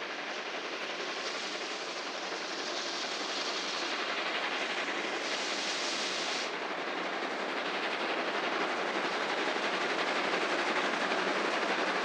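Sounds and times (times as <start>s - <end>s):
train rolling on tracks: 0.0s - 12.0s.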